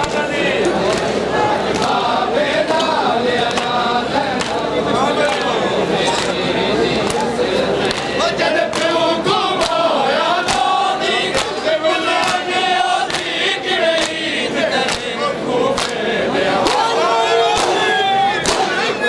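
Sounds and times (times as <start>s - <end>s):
crowd of men chanting: 0.0s - 19.0s.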